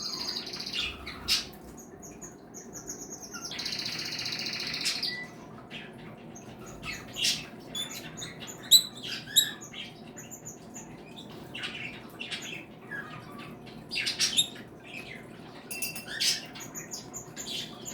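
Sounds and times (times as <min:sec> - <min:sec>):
birds chirping and squawking: 0:00.0 - 0:17.9.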